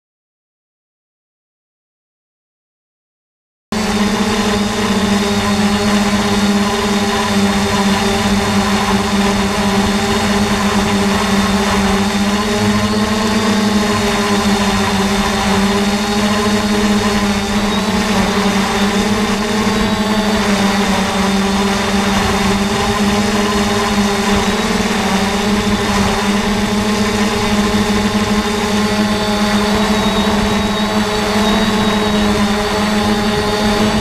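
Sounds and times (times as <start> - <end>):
drone propellers whining: 3.8 - 34.0.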